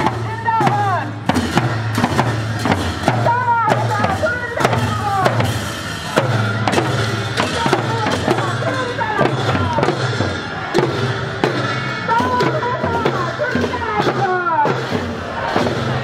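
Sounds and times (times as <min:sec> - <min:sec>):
frame drums beating: 0:00.0 - 0:16.0.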